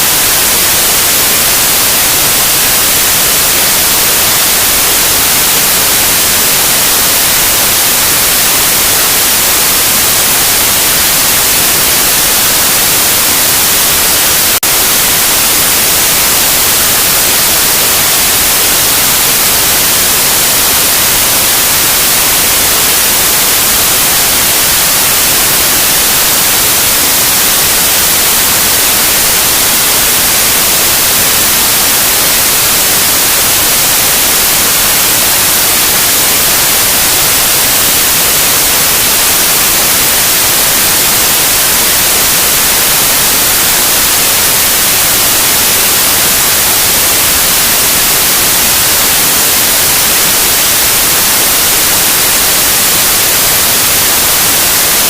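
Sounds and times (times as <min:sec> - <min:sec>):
loud steady white noise: 0:00.0 - 0:55.0.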